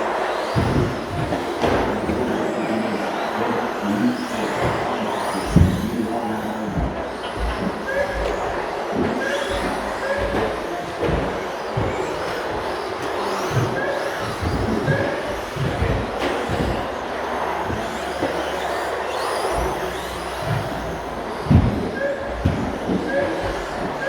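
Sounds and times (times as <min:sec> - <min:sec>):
rc trucks racing: 0:00.0 - 0:24.0.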